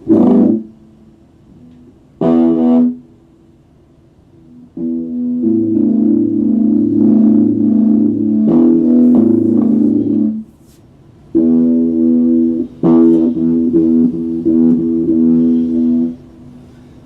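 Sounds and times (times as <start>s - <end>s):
electric guitar strumming chords: 0.0s - 3.1s, 4.4s - 10.5s, 11.3s - 16.7s.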